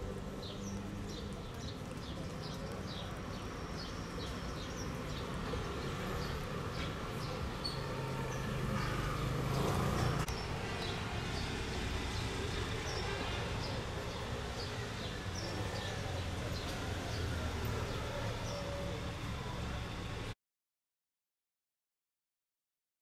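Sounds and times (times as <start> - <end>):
small birds chirping: 0.0 - 20.0
distant traffic hum: 0.0 - 20.4.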